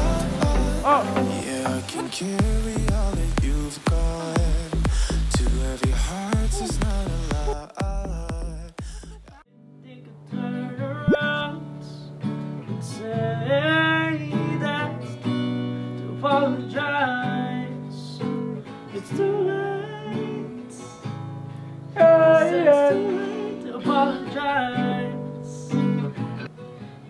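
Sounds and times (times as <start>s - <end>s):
man singing: 0.0s - 15.4s, 16.0s - 21.2s, 22.0s - 26.0s
acoustic guitar: 0.0s - 27.0s.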